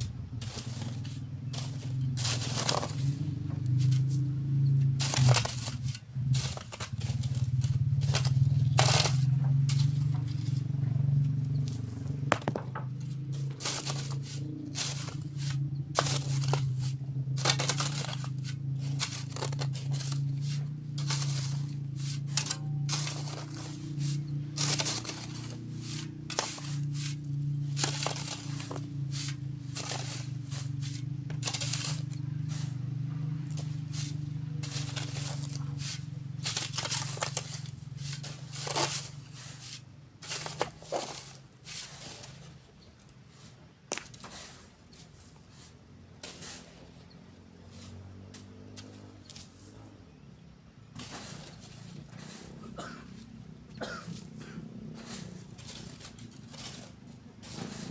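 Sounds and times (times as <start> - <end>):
sand being thrown and sifted: 0.0 - 10.8, 11.6 - 50.1, 50.8 - 53.4, 54.0 - 57.9
low engine drone: 0.0 - 42.7, 50.9 - 57.9
shovels scraping sand: 0.0 - 57.9.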